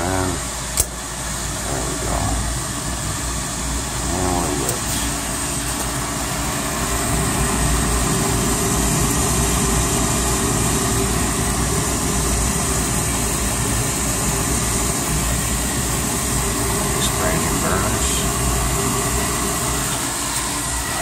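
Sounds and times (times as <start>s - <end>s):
furnace rushing hum: 0.0s - 21.0s.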